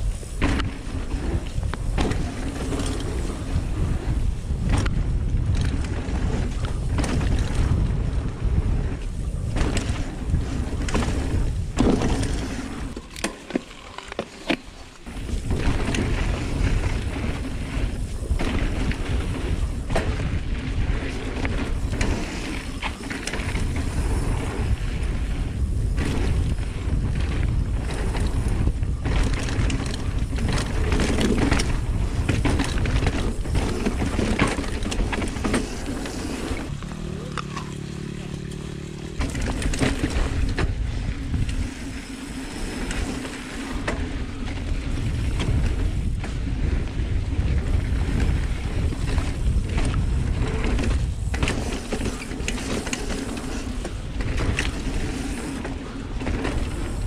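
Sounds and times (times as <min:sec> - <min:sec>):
bike rattling: 0:00.0 - 0:57.0
bike tyres rumbling on dirt: 0:00.0 - 0:57.0.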